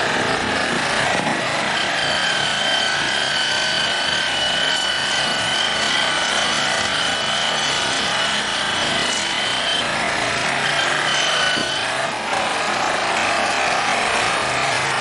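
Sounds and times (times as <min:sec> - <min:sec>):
machine whining and grinding: 0:00.0 - 0:15.0.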